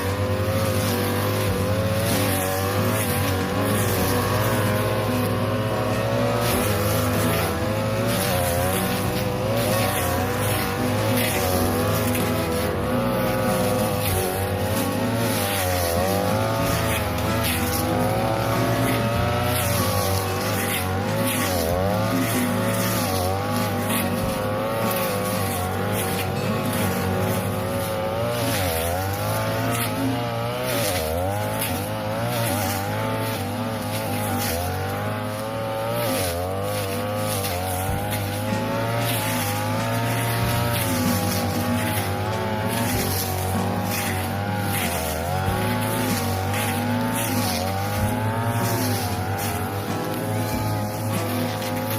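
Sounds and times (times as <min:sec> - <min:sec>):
brush cutter cutting grass: 0:00.0 - 0:51.9.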